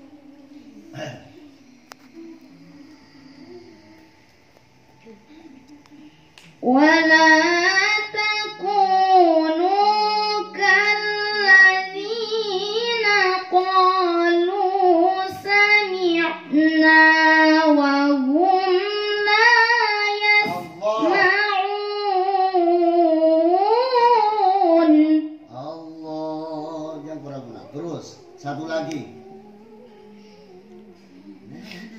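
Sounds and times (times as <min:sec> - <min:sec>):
woman chanting recitation: 0:00.0 - 0:04.3, 0:05.0 - 0:31.9.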